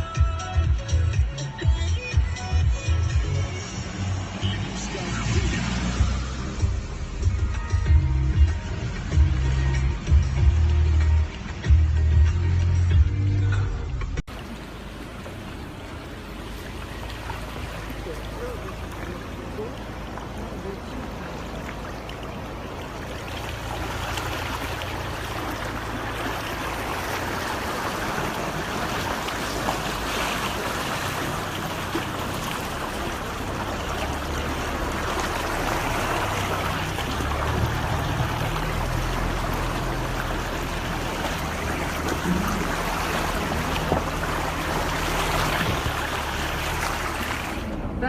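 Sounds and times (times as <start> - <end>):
low engine hum: 0.0 - 48.0
rainwater rushing along street: 0.9 - 13.0, 14.2 - 48.0.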